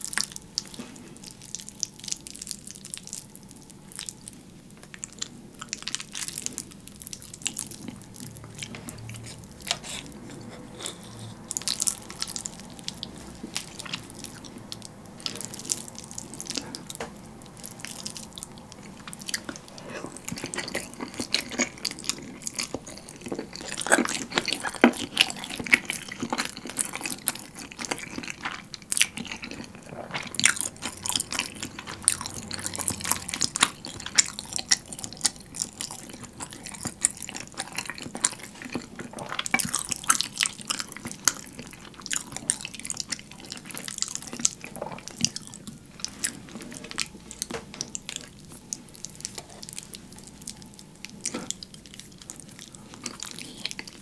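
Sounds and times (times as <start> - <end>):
wet chewing and slurping: 0.0 - 54.0.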